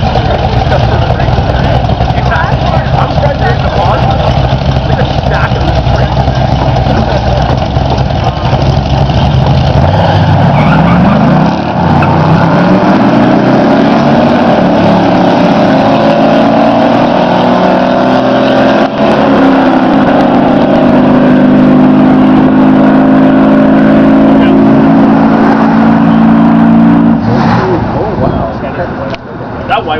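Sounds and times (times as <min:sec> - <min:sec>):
truck engine accelerating: 0:00.0 - 0:29.9.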